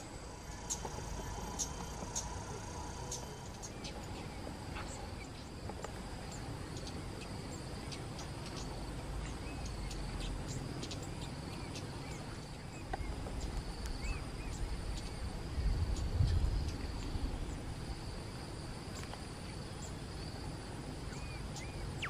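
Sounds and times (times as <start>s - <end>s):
high insect buzz: 0.0s - 22.0s.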